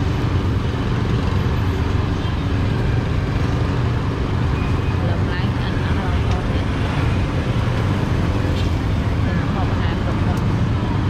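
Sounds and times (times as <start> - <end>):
low traffic rumble: 0.0 - 11.0
street market din: 0.0 - 11.0.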